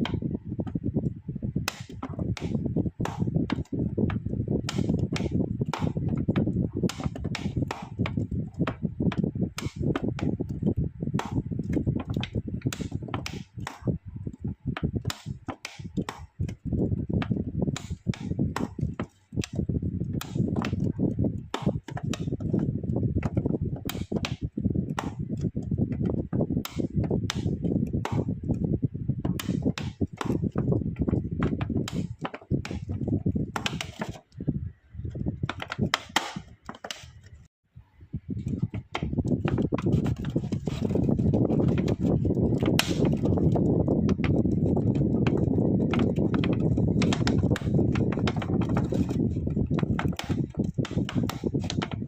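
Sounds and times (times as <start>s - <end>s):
irregular knocks and clicks: 0.0s - 28.6s, 29.2s - 34.4s, 35.1s - 37.4s, 38.4s - 52.0s.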